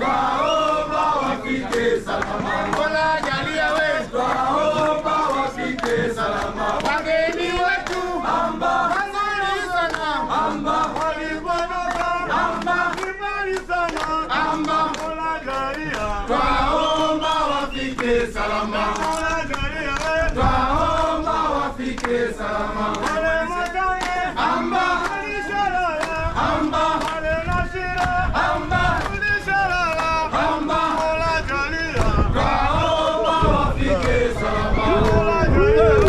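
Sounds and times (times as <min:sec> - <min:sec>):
men singing in chorus: 0:00.0 - 0:36.0.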